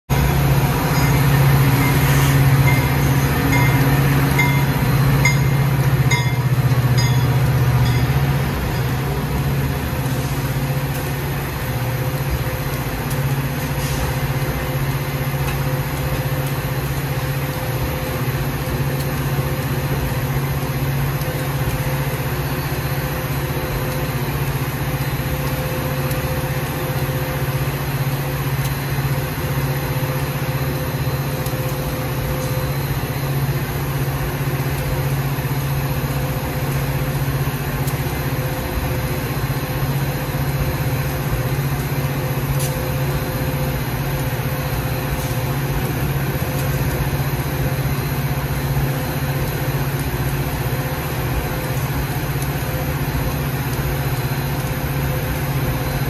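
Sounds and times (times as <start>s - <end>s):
locomotive engine hum: 0.1s - 56.0s.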